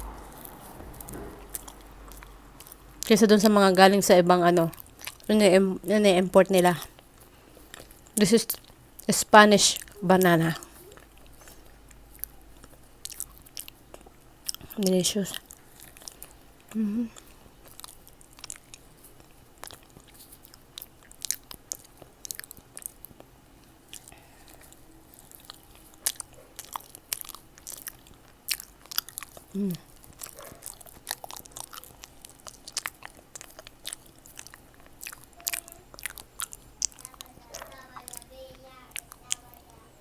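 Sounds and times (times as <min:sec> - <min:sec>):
mouth clicks and smacks: 0:00.0 - 0:03.6, 0:07.6 - 0:38.3
wet chewing of fruit: 0:00.0 - 0:40.0.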